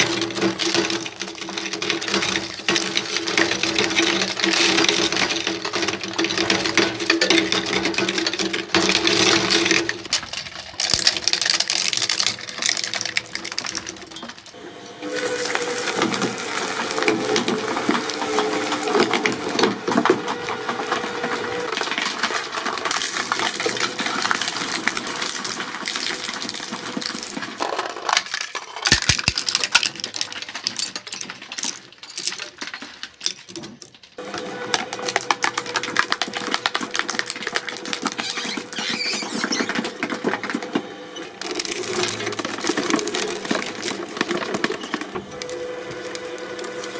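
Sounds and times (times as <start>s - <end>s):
shredder cutters crunching: 0.0s - 46.9s.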